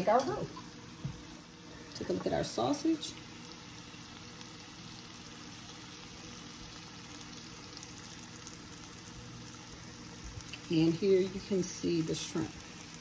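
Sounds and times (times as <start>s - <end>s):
sausage sizzling in a skillet: 0.0s - 13.0s.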